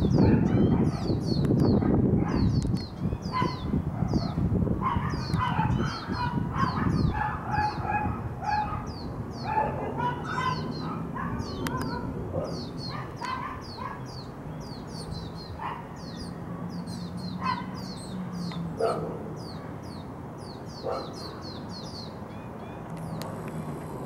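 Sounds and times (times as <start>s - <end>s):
fledglings begging calls: 0.0s - 23.7s.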